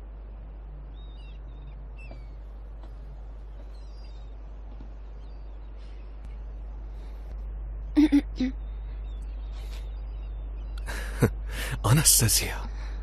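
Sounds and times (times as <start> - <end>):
steady low hum: 0.0 - 13.0
faint bird chirps: 0.5 - 7.4, 8.0 - 13.0.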